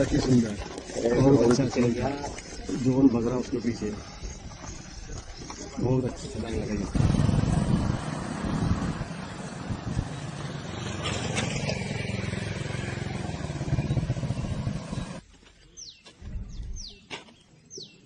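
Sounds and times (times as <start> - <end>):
motor vehicle engine rumbling: 0.0 - 17.1.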